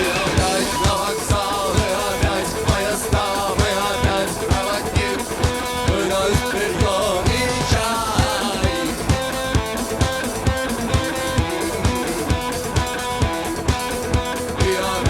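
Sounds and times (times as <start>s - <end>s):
rock guitars: 0.0s - 15.0s
steady drum beat: 0.0s - 15.0s.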